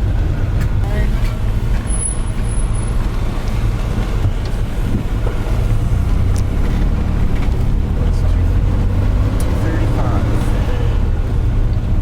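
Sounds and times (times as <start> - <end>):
van engine running: 0.0 - 12.0.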